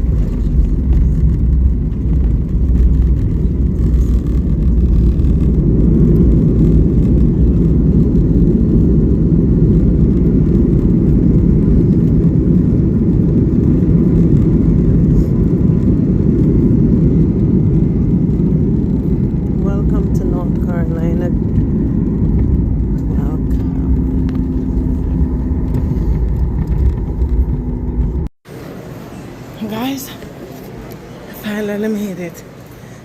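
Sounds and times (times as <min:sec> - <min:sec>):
airliner cabin rumble: 0:00.0 - 0:31.3.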